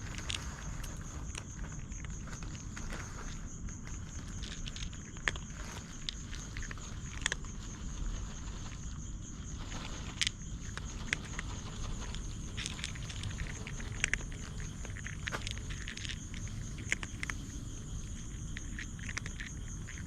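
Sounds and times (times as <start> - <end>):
insect trilling: 0.0 - 20.0
light clicks and pattering: 0.0 - 20.0.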